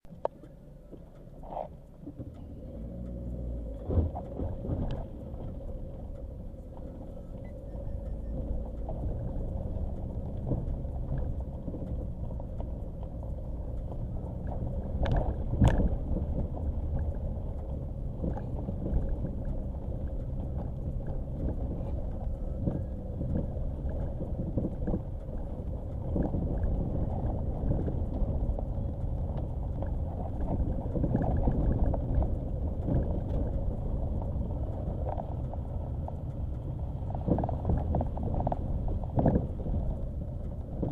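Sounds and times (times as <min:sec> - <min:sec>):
engine and tyre rumble: 0:00.0 - 0:40.9.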